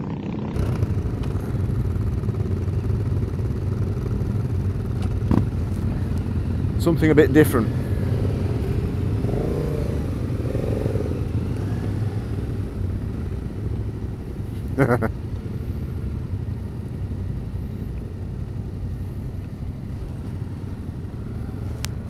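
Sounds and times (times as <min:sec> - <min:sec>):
motorcycle engine running slowly: 0:00.0 - 0:22.0.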